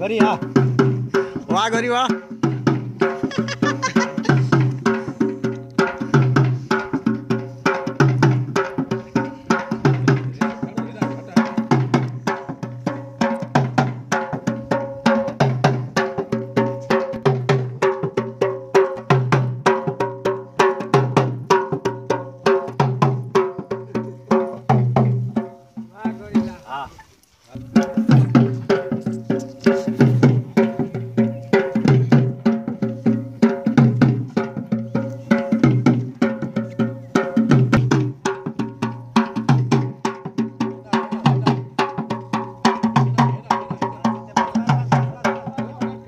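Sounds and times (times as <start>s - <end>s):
barrel drum beating folk rhythm: 0.0s - 46.0s.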